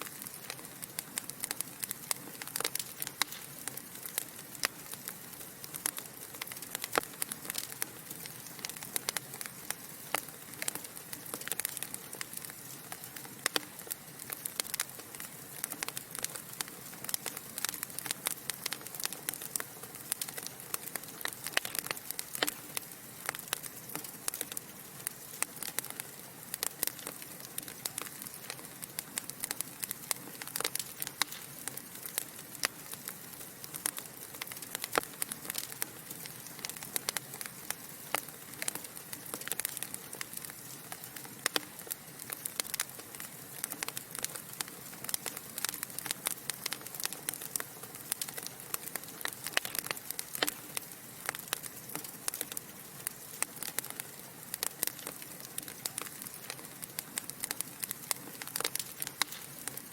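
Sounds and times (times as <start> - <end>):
hiss of burning logs: 0.0 - 59.9
sharp snaps and pops: 0.0 - 59.9
wood fire crackling: 0.0 - 59.9.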